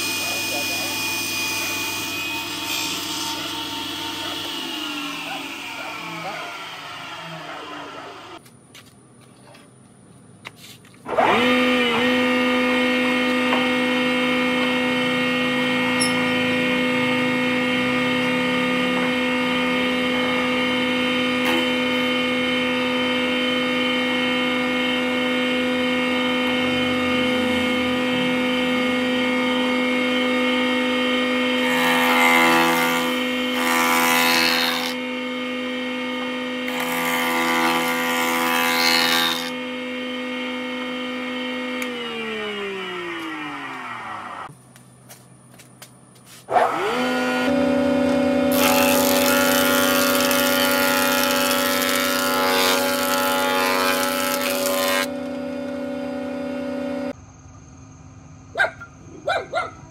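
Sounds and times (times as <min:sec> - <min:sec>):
machine cutting wood: 0:00.0 - 0:08.4, 0:11.0 - 0:44.5, 0:46.5 - 0:57.1
woodworking machine humming: 0:00.0 - 0:08.4, 0:11.1 - 0:44.5, 0:46.5 - 0:57.2.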